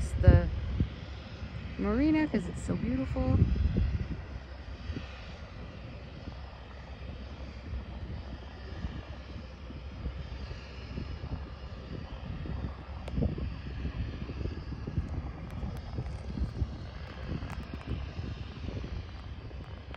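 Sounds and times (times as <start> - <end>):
distant plane engine drone: 0.0 - 19.9.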